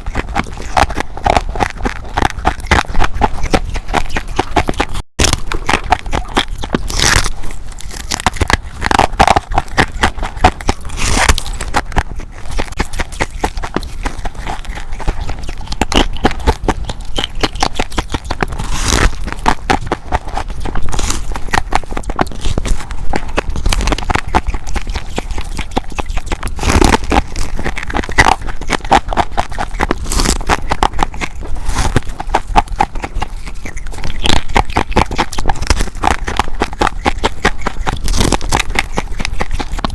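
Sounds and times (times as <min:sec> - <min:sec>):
crunching ice being chewed: 0:00.0 - 0:39.9.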